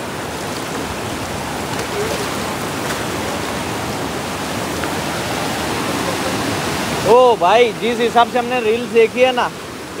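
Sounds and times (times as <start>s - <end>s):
stream rushing: 0.0s - 10.0s.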